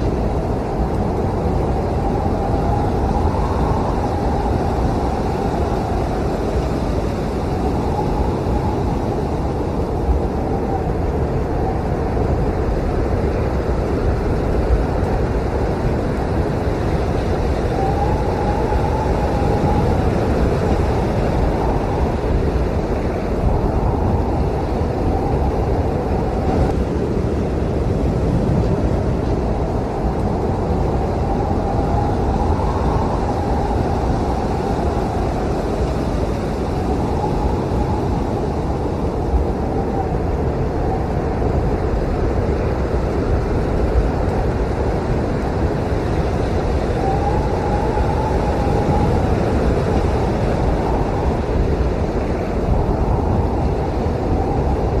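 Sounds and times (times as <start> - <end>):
snowstorm wind howling: 0.0 - 55.0.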